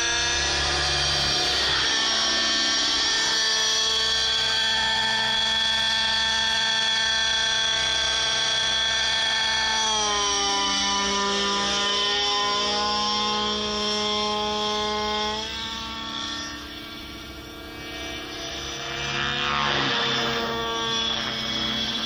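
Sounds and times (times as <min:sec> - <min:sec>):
model helicopter engine whining: 0:00.0 - 0:22.0.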